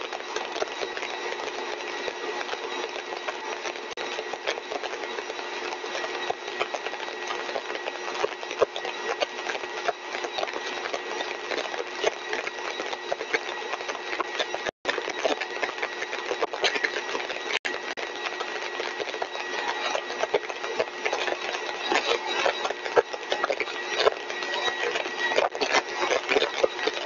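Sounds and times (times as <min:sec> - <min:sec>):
compressor whine: 0:00.0 - 0:27.0
crackling clicks: 0:00.0 - 0:27.0.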